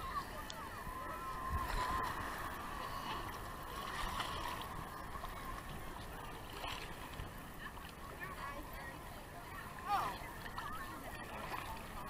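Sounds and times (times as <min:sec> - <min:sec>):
distant voices: 0:00.0 - 0:12.0
sea water sloshing and lapping: 0:00.0 - 0:12.0.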